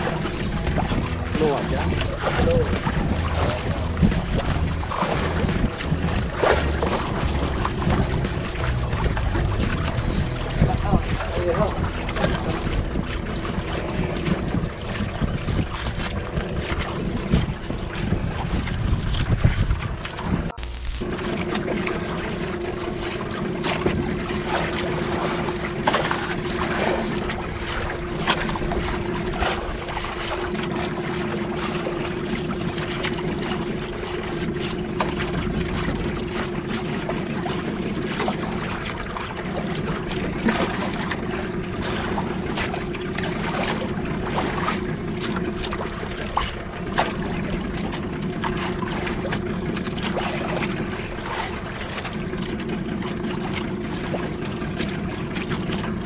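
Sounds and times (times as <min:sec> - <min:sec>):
boat engine humming: 0:00.0 - 0:56.0
water slapping against hull: 0:00.0 - 0:56.0.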